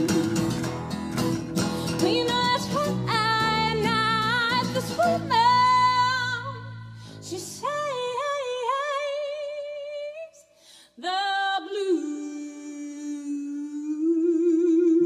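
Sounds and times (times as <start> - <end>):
woman singing blues: 0.0 - 0.9, 1.6 - 15.0.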